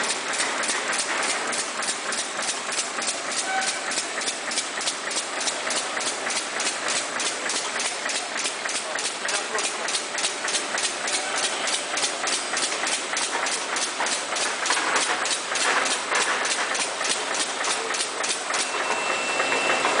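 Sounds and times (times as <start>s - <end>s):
machine clacking: 0.0s - 20.0s.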